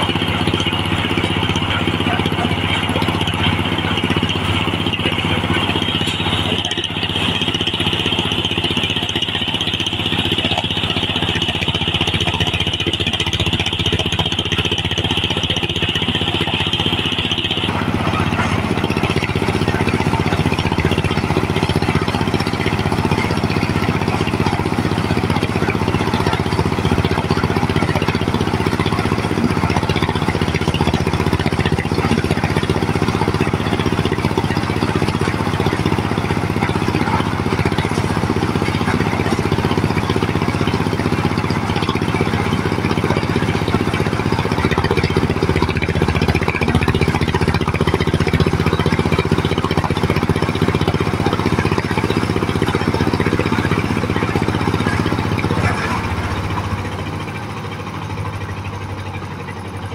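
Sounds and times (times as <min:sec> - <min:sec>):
corn sheller clattering: 0:00.0 - 0:57.3
diesel engine running: 0:00.0 - 0:59.9.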